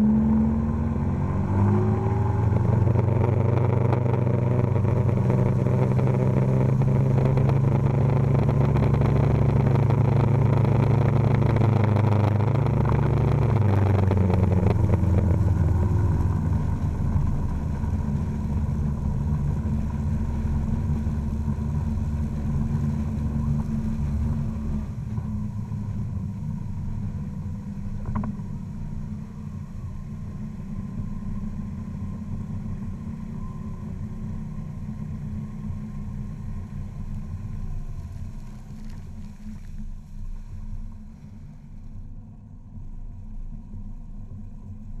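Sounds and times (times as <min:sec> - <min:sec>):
outboard engine drone: 0:00.0 - 0:45.0
wind: 0:00.0 - 0:45.0.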